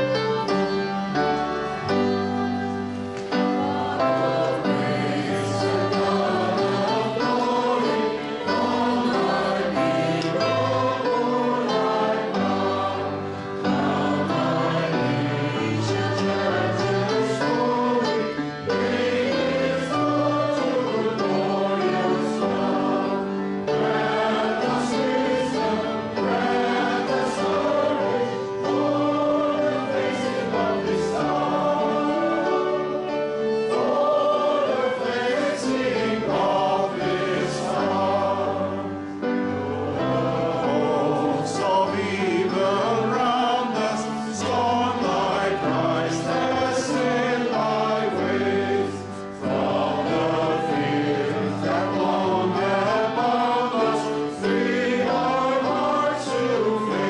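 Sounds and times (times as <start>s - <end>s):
choir singing a hymn: 0.0s - 57.0s
instrumental accompaniment: 0.0s - 57.0s.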